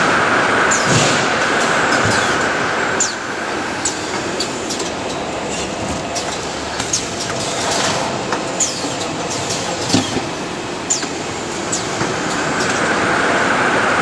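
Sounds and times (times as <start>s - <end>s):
higher machine hum: 0.0s - 14.0s
machinery whirring: 0.0s - 14.0s.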